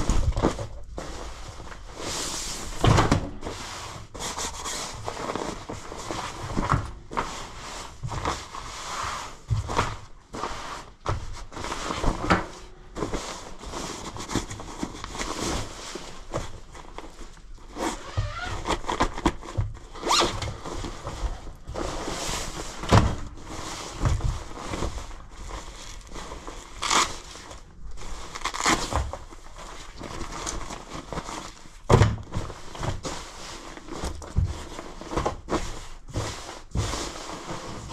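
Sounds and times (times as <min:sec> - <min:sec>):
jacket fabric rustling: 0:00.0 - 0:37.9.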